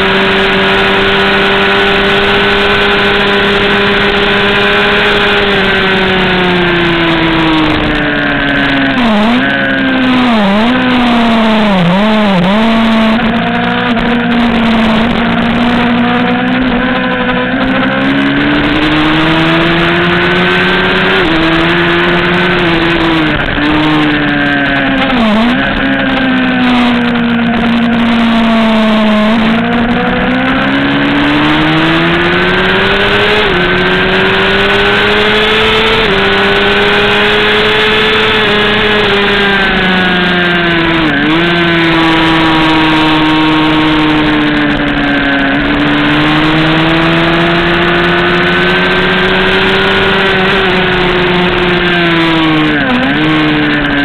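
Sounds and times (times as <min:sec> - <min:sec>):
motorcycle engine at high revs: 0:00.0 - 0:54.0
wind rush: 0:00.0 - 0:54.0.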